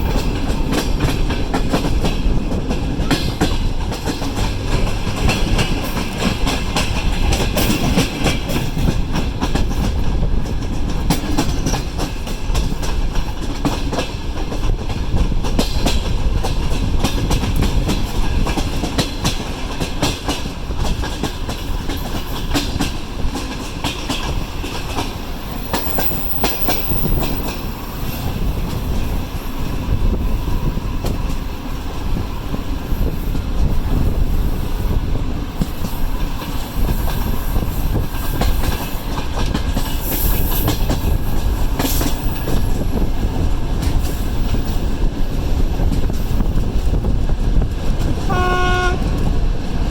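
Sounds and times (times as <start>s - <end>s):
wheels clicking over rail joints: 0.0s - 34.4s, 35.1s - 49.9s
train rumbling on track: 0.0s - 49.9s.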